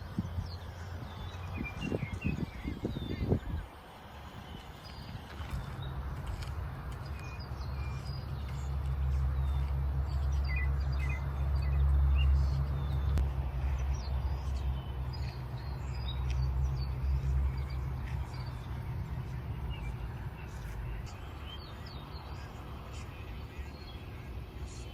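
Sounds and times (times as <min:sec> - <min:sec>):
small birds chirping: 0:00.0 - 0:24.9
steady low rumble: 0:00.0 - 0:24.9.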